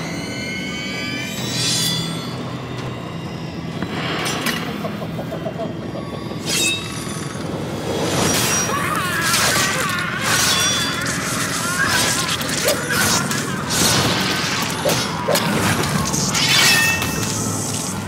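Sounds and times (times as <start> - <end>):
dark horror music: 0.0 - 18.0.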